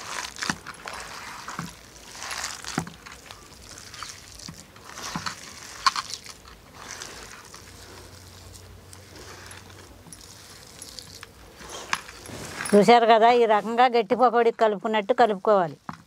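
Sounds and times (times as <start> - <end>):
hand mixing wet batter: 0.0 - 16.0.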